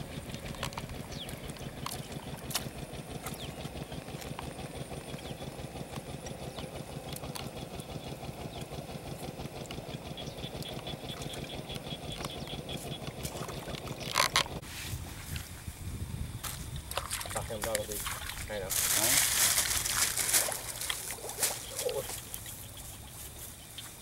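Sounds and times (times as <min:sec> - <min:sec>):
small engine putter: 0:00.0 - 0:14.6, 0:16.9 - 0:24.0.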